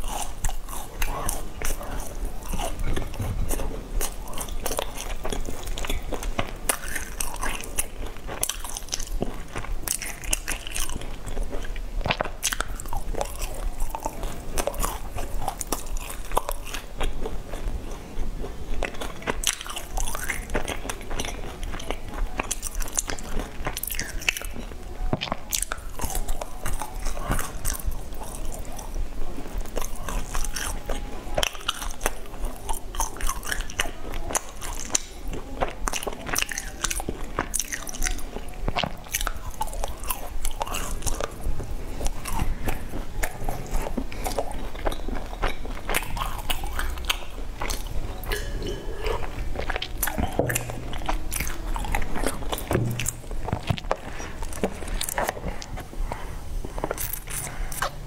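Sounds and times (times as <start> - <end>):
crunching and chewing pastry: 0.0 - 58.0.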